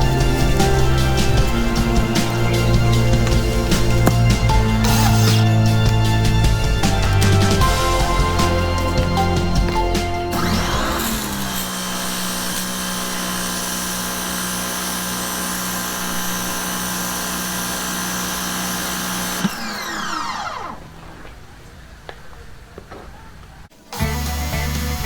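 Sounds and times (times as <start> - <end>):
pressure washer motor running: 0.0 - 20.8.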